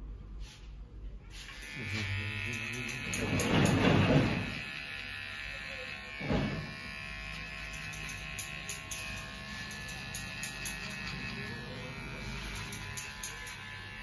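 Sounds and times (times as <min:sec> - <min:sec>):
electric hair clipper buzzing: 0:01.3 - 0:14.0.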